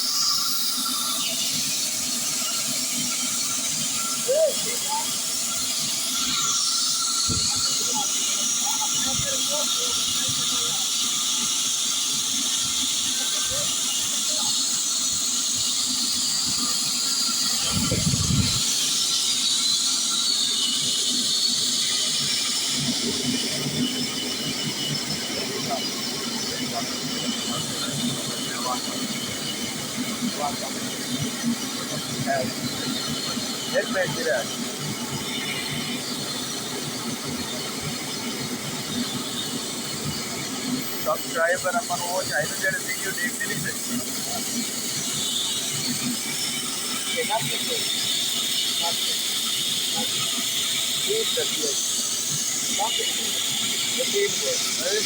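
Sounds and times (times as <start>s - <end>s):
wood-cutting machine hissing: 0.0s - 55.0s.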